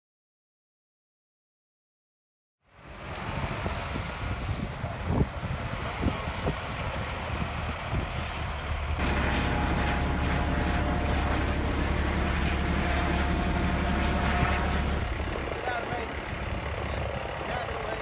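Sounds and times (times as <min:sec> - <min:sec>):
outdoor background noise: 0:02.6 - 0:18.0
helicopter droning overhead: 0:02.8 - 0:18.0.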